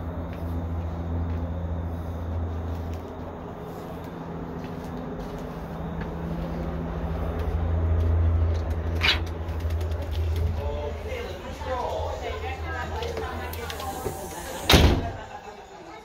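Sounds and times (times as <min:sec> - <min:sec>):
low mechanical hum: 0:00.0 - 0:15.4.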